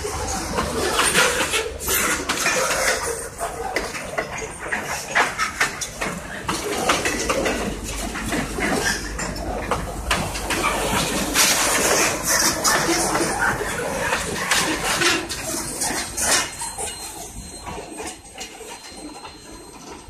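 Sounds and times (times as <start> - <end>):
train rumble: 0.0 - 20.0
train wheels clattering: 0.0 - 20.0.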